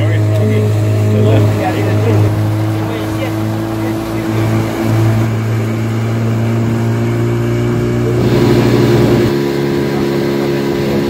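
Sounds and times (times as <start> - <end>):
outboard motor running: 0.0 - 11.0
water rushing: 0.0 - 11.0
wind: 0.0 - 11.0.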